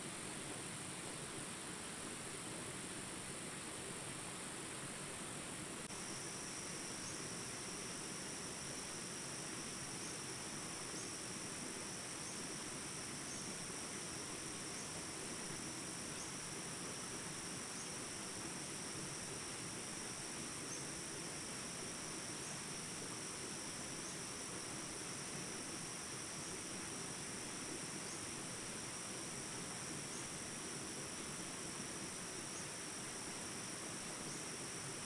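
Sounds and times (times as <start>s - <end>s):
insects trilling: 5.8s - 35.0s.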